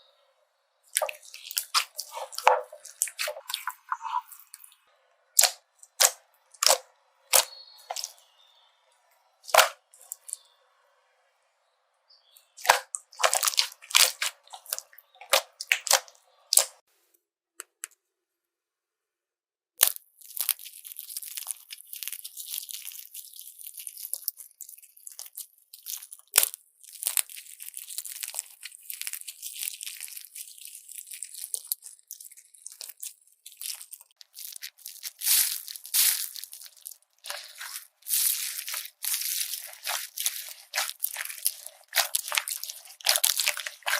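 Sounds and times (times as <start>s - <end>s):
slime squished by hand: 0.9s - 4.8s, 5.4s - 8.2s, 9.4s - 10.4s, 12.6s - 16.8s, 19.8s - 43.9s.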